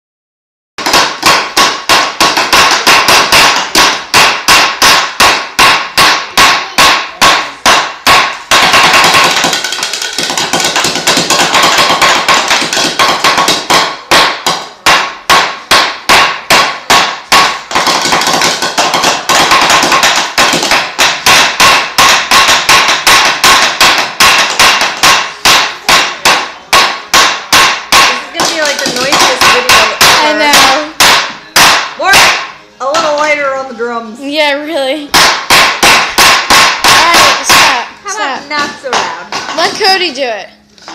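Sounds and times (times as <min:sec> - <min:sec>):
plastic toys banging: 0:00.8 - 0:33.4, 0:35.1 - 0:37.9.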